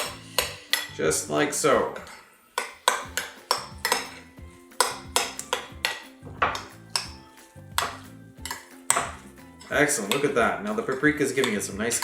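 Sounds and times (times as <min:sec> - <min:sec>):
utensil clinking against bowl: 0:00.0 - 0:01.0, 0:02.0 - 0:12.0
background music: 0:00.0 - 0:12.0.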